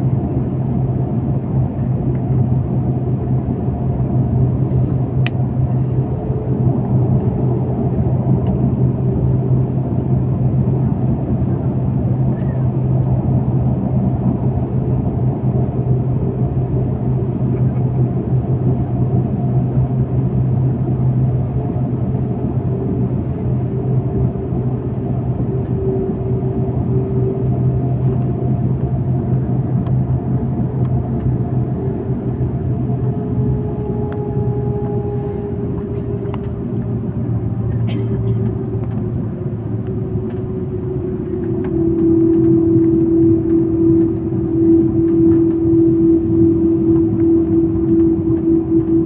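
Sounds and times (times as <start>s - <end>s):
airplane cabin drone: 0.0s - 49.0s.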